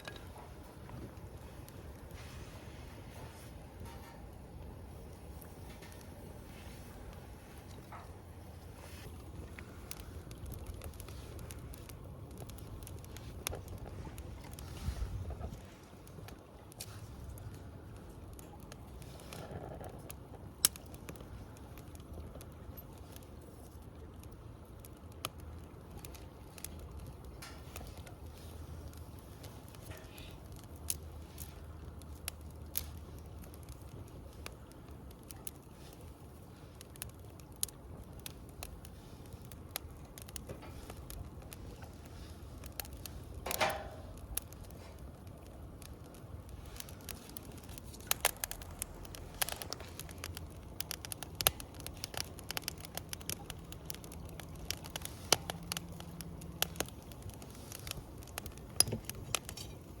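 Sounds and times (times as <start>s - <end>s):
campfire crackling and popping: 0.0s - 60.0s.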